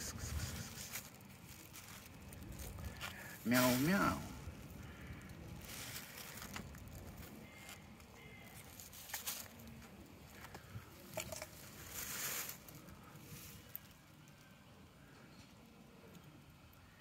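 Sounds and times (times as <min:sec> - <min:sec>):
faint rustling and scraping: 0:00.0 - 0:14.6.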